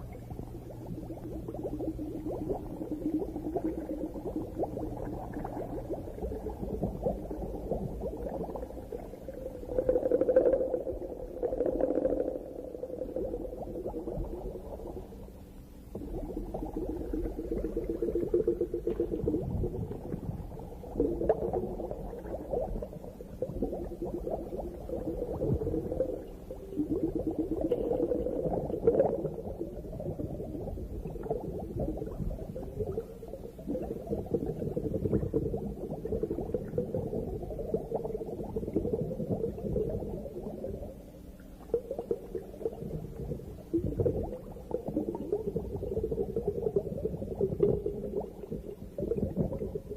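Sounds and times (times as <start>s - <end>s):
underwater bubbling and gurgling: 0.0s - 49.9s.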